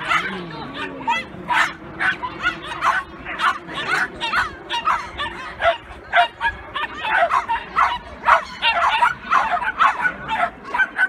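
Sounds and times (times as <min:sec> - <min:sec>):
dog yipping: 0:00.0 - 0:11.0.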